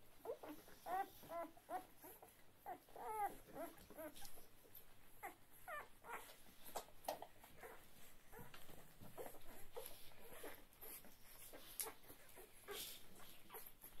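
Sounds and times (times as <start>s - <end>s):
puppies squeaking and whimpering: 0.2s - 14.0s.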